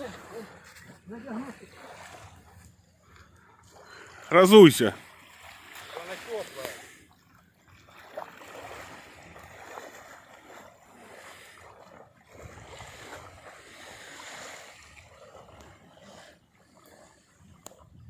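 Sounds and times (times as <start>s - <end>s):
small waves washing onto sand: 0.0s - 18.0s.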